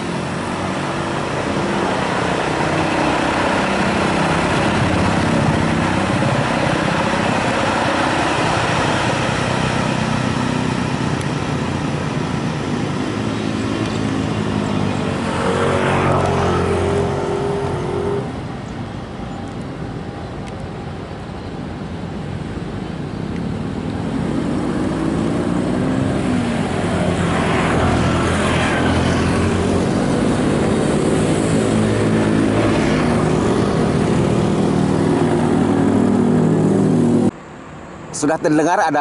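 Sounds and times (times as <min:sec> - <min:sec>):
train passing at speed: 0:00.0 - 0:39.0.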